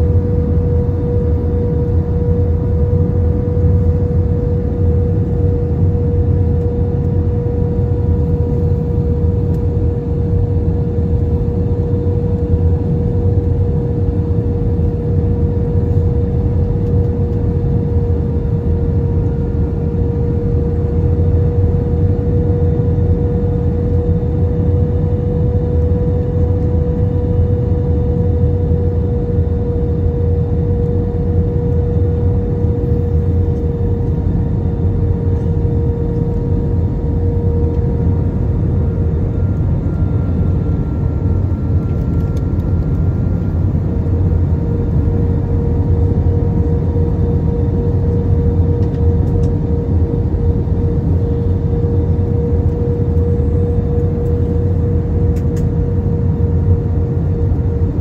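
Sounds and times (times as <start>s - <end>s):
aircraft cabin engine drone: 0.0s - 58.0s
steady humming tone: 0.0s - 58.0s.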